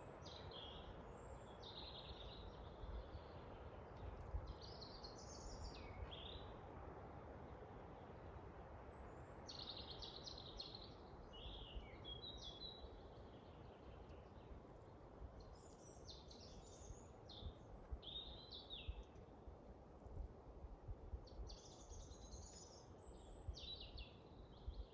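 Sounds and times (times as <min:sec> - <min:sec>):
songbirds singing: 0:00.0 - 0:06.5, 0:09.0 - 0:19.3, 0:21.3 - 0:24.9
faint wind: 0:00.0 - 0:24.9.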